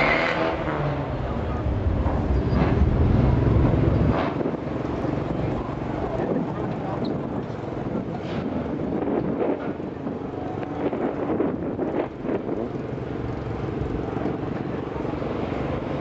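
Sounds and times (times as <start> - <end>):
car engines running: 0.0 - 16.0
wind buffeting microphone: 1.1 - 16.0.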